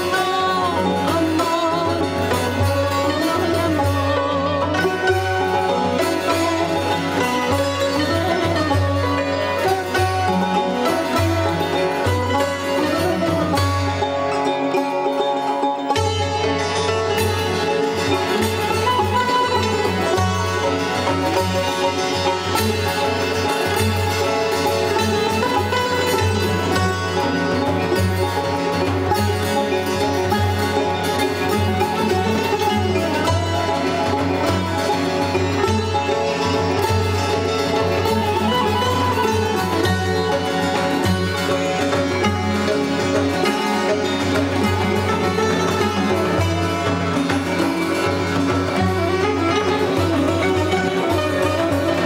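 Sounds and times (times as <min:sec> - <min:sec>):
plucked string instrument music: 0:00.0 - 0:52.0.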